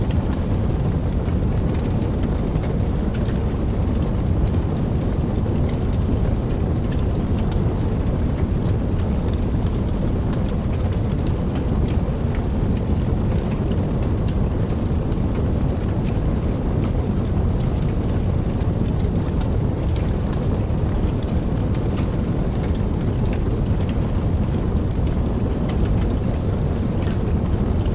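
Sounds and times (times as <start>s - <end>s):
campfire crackling: 0.1s - 27.9s.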